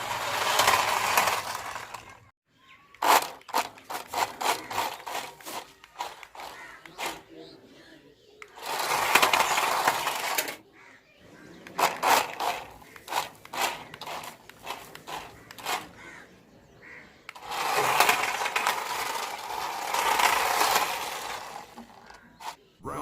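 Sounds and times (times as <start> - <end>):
toy car motors whirring: 0.0 - 7.4, 8.4 - 10.6, 11.6 - 16.1, 17.3 - 22.6.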